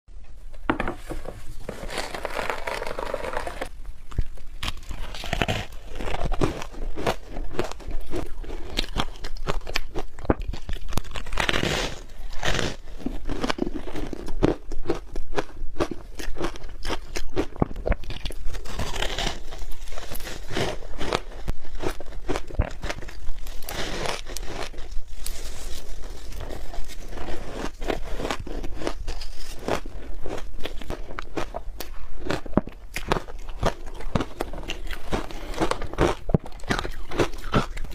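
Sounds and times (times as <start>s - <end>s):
ice crunching being chewed: 1.7s - 37.9s.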